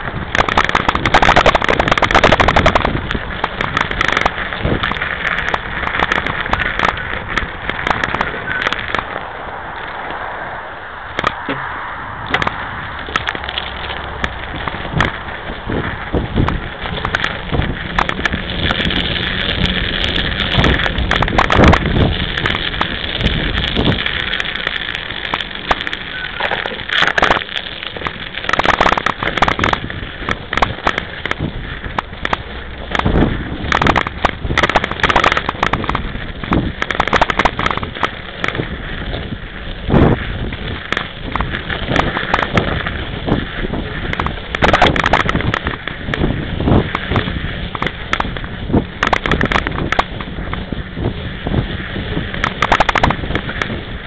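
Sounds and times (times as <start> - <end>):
bike knocks and rattles: 0.0 - 10.1, 11.1 - 54.0
bike tyre crunching through snow: 0.0 - 54.0
steady rushing noise: 0.0 - 54.0.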